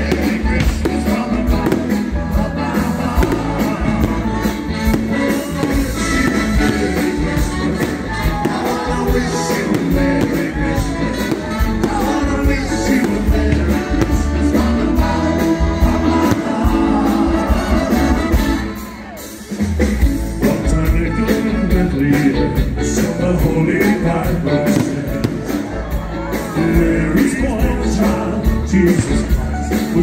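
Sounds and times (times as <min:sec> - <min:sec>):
person singing: 0:00.0 - 0:19.2, 0:20.2 - 0:30.0
live band playing: 0:00.0 - 0:30.0.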